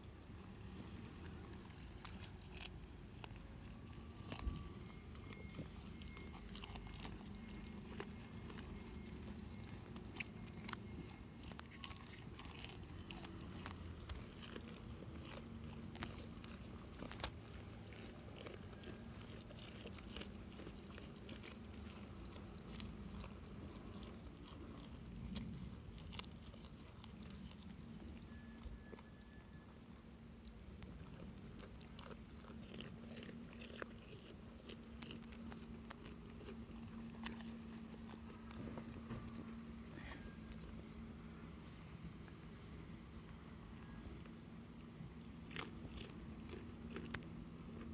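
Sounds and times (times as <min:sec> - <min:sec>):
goats chewing bean pods: 0:00.0 - 0:47.9.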